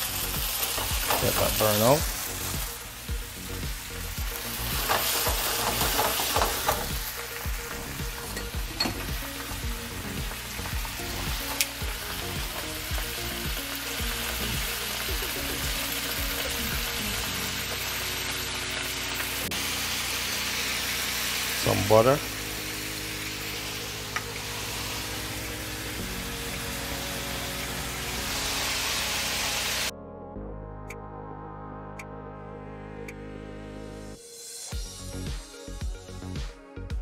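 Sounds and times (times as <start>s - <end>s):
wine sizzling in a skillet: 0.0s - 29.9s.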